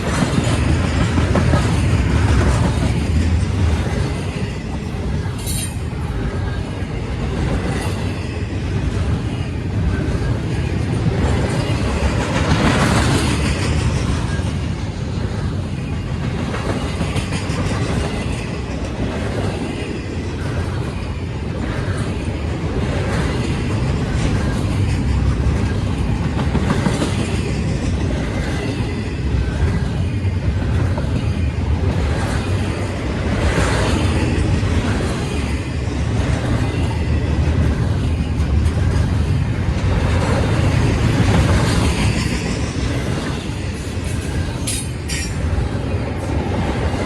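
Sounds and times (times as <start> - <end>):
train rumbling past on rails: 0.0 - 47.0.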